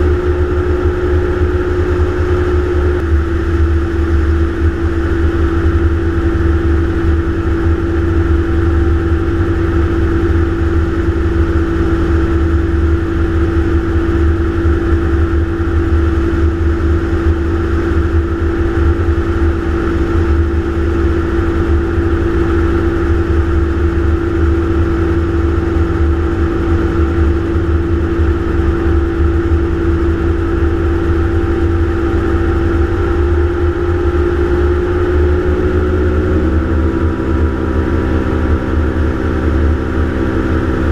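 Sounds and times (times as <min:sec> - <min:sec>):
aircraft engine and propeller droning: 0:00.0 - 0:40.9
low buffeting rumble: 0:00.0 - 0:40.9.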